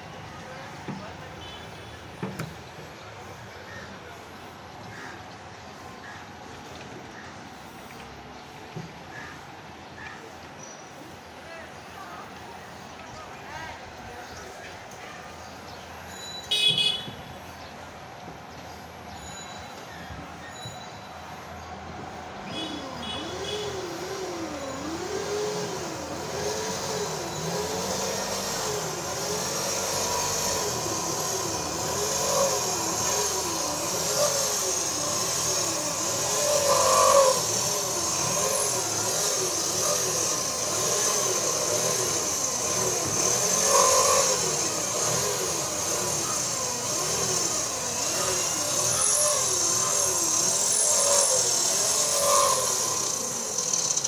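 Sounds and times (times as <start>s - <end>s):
traffic noise: 0.0s - 54.0s.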